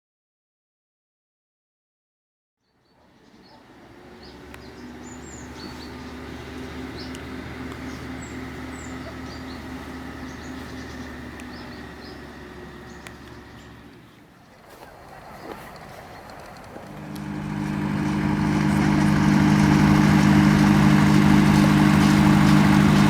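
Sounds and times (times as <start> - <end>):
small birds chirping: 2.6 - 23.0
low engine hum: 2.8 - 23.0.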